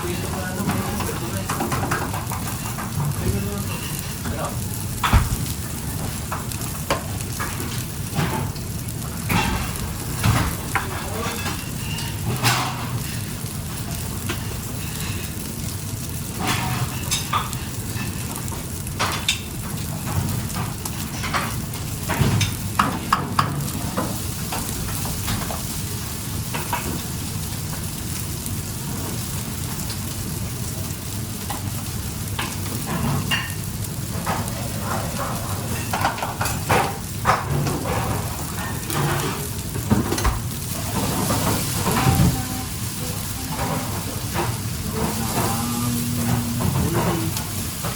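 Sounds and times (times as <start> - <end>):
food sizzling in a frying pan: 0.0 - 47.9.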